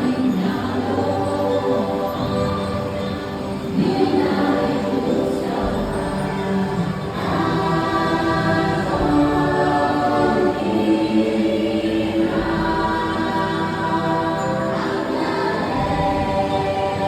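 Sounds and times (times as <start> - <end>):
choir singing held notes: 0.0 - 17.0
music: 0.0 - 17.0.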